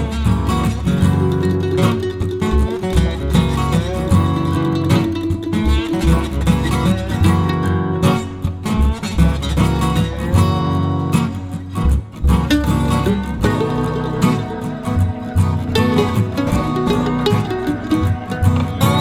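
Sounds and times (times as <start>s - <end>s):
steady bass: 0.0s - 19.0s
strummed acoustic guitar: 0.0s - 19.0s.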